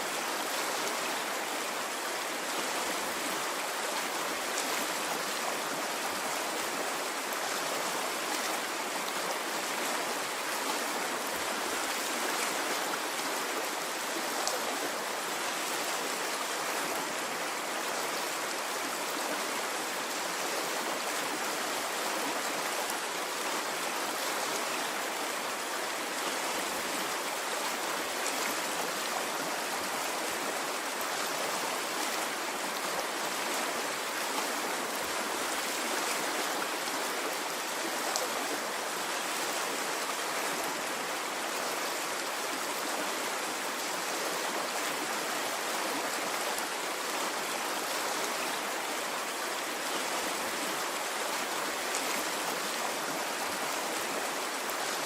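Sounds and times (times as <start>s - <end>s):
stream of water flowing: 0.0s - 55.0s.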